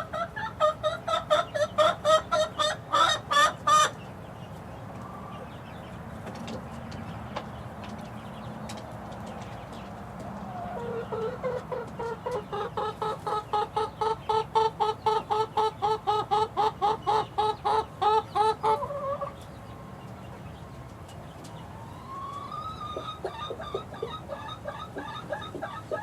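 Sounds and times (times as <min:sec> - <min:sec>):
chicken clucking: 0:00.0 - 0:26.0.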